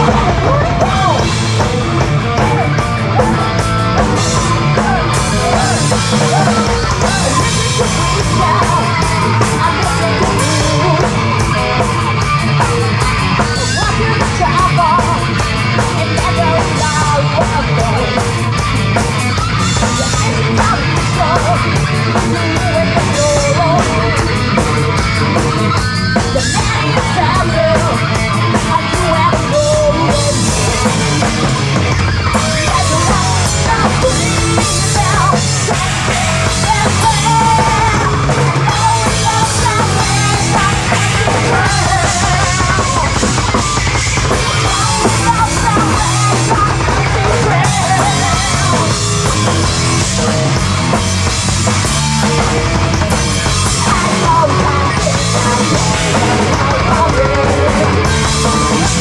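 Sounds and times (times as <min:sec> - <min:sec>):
person singing: 0:00.0 - 0:18.5, 0:19.4 - 0:50.6, 0:51.9 - 0:59.0
distorted electric guitars: 0:00.0 - 0:59.0
drum kit: 0:00.0 - 0:59.0.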